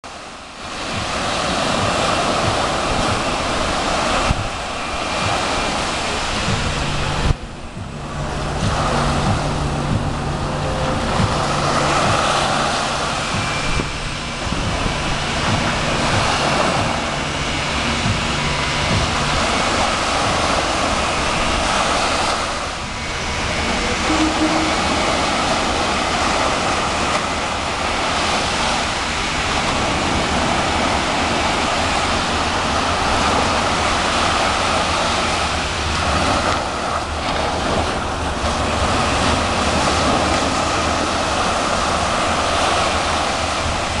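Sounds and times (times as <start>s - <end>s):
surf waves washing up beach: 0.0s - 44.0s.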